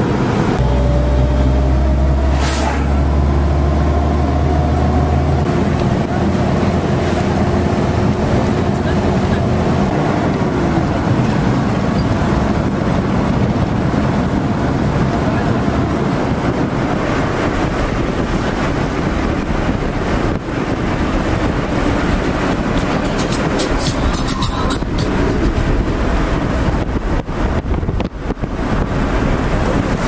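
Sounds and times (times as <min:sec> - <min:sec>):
engine and road noise: 0:00.0 - 0:30.0.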